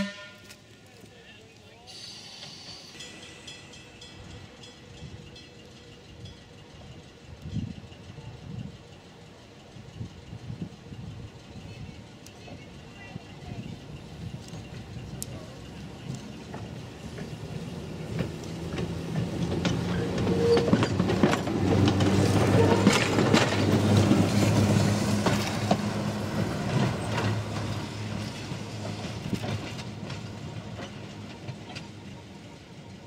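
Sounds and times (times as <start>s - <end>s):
wheels clicking over rail joints: 2.4s - 33.0s.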